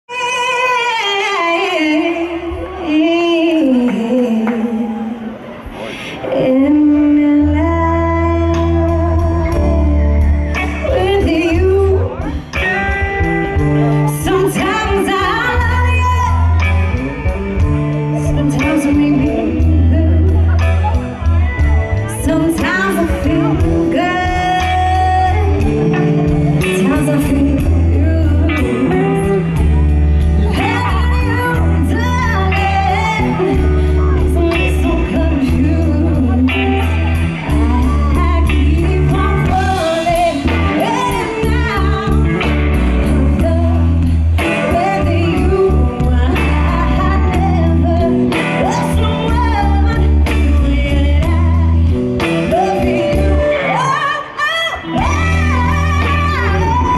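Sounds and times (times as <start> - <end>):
woman singing: 0.0 - 5.4, 6.3 - 56.9
electric bass: 6.4 - 56.9.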